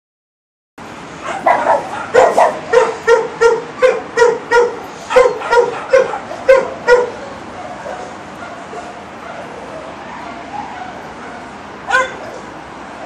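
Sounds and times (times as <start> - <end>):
dog barking loudly: 1.2 - 12.6.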